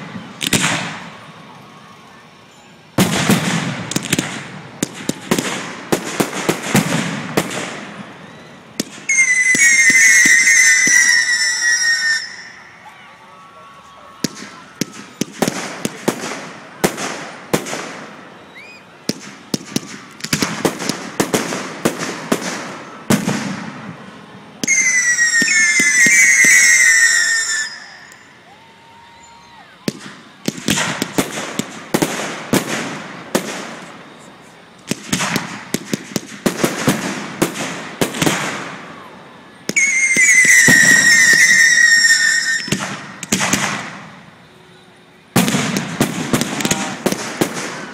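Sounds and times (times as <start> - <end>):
fireworks crackling and banging: 0.0 - 47.9
whistling fireworks: 0.0 - 47.9.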